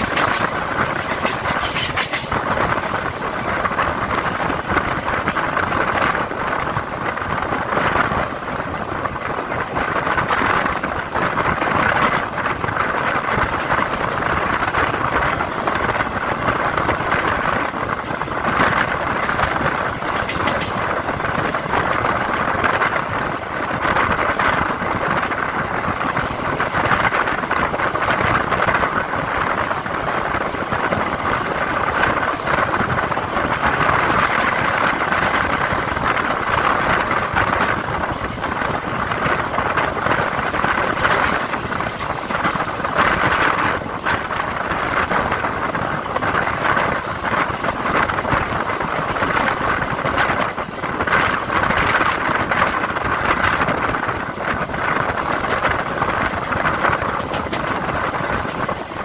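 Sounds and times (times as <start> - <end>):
train wheels rumbling on rails: 0.0 - 59.0
wind rushing: 0.0 - 59.0.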